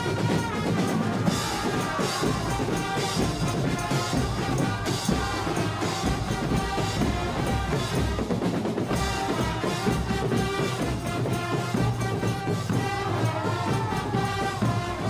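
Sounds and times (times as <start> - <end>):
trumpets and drums marching music: 0.0 - 15.0.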